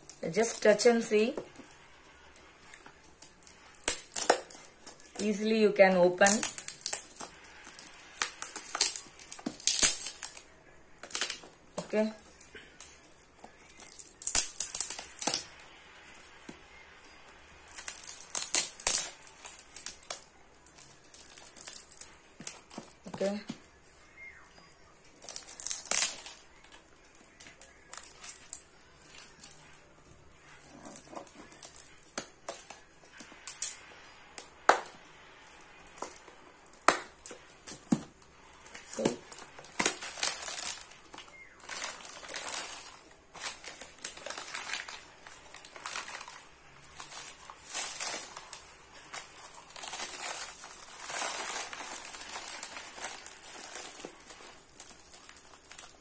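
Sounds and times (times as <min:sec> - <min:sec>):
plastic wrap and paper crinkling: 0:00.0 - 0:56.0.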